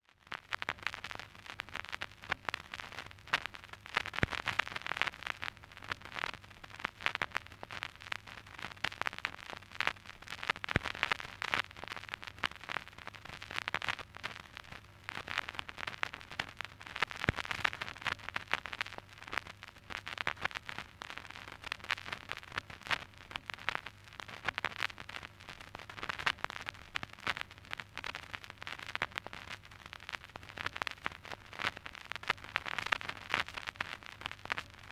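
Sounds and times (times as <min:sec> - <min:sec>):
vinyl crackles and pops: 0:00.0 - 0:34.9.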